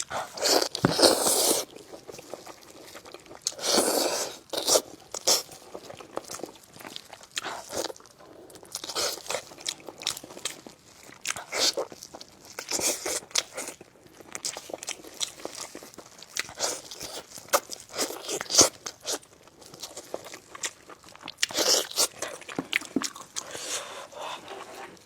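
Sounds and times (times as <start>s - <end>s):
biting and crunching: 0.0s - 25.0s
wet chewing: 0.0s - 25.0s.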